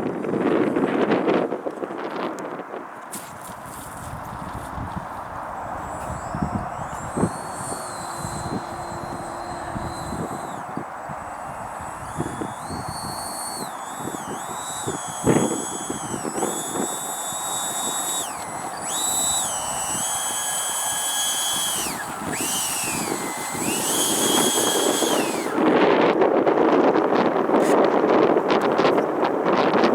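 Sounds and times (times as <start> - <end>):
wind buffeting microphone: 0.0 - 29.9
electric ducted fans whining: 3.7 - 29.9.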